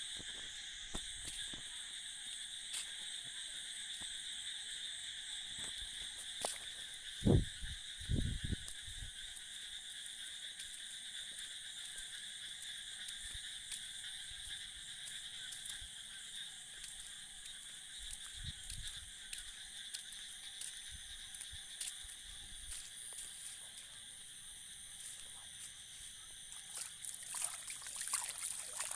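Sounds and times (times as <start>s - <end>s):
insects chirring: 0.0s - 28.9s.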